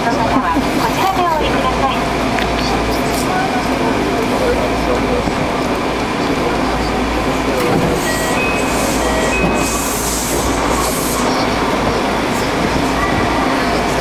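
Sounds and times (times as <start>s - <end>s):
subway car running rumble: 0.0s - 14.0s.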